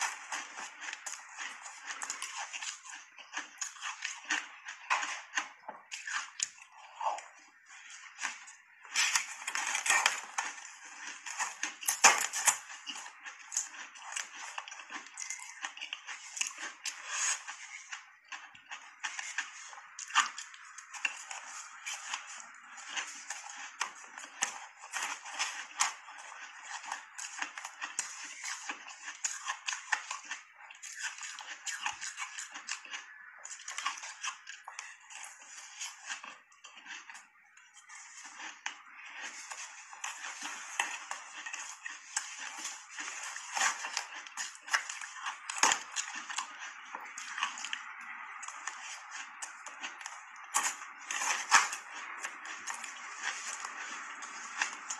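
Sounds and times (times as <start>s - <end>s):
chewing and crunching ice: 0.0s - 54.9s.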